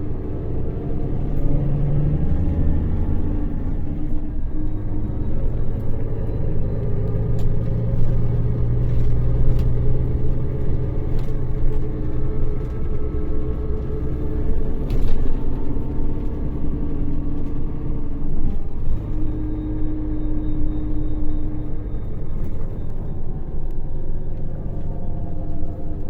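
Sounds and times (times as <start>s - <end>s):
diesel bus engine droning: 0.0s - 26.0s.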